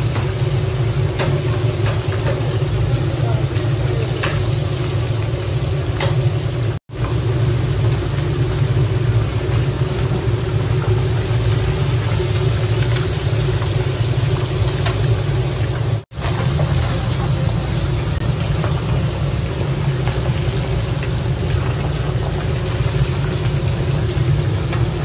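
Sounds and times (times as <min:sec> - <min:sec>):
burner flame rumble: 0:00.0 - 0:25.0
oil bubbling and sizzling: 0:00.0 - 0:25.0.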